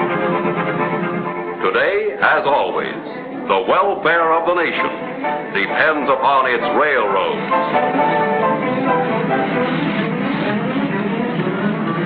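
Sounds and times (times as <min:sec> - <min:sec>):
film score with sustained chords: 0:00.0 - 0:12.0.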